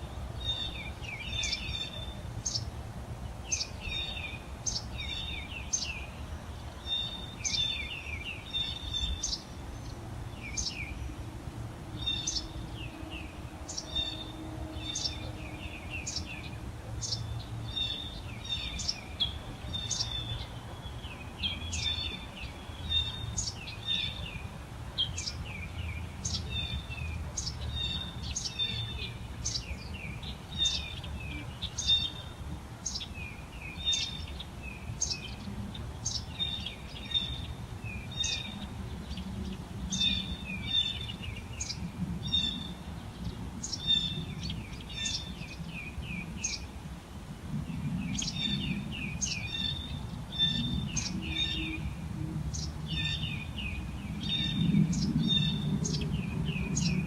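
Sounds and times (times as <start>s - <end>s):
birds chirping: 0.0s - 46.9s, 47.6s - 57.0s.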